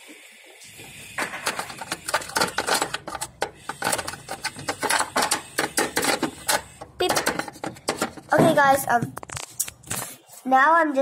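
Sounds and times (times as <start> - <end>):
plastic toys clicking and clattering: 1.2 - 10.1.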